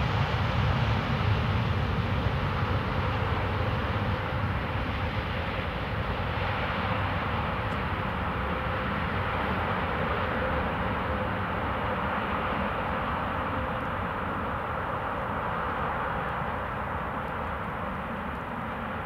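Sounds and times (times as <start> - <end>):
jet airliner engines: 0.0 - 19.0.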